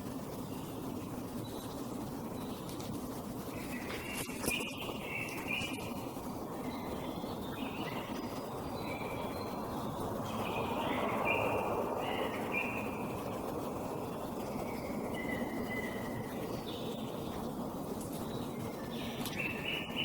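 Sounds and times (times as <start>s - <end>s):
low rumbling noise: 0.0s - 20.0s
songbird singing: 0.4s - 20.0s.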